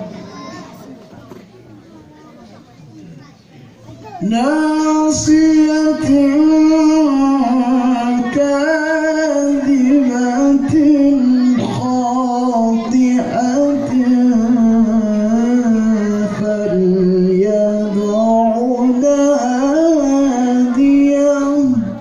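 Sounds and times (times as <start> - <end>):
person reciting melodically: 0.0 - 1.0, 4.0 - 22.0.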